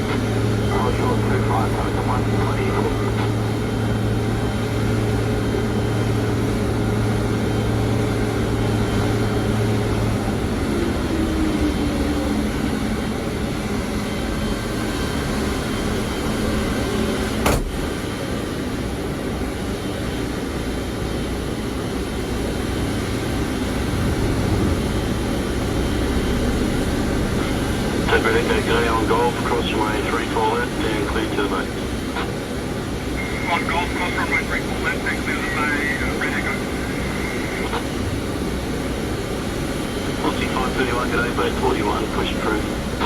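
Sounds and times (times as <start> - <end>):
aircraft and machinery drone: 0.0 - 43.0
low hum: 0.0 - 43.0.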